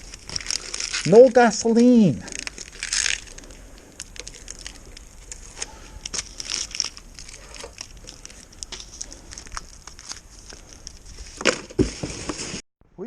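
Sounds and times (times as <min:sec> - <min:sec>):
packaging crinkling and rustling: 0:00.0 - 0:12.6.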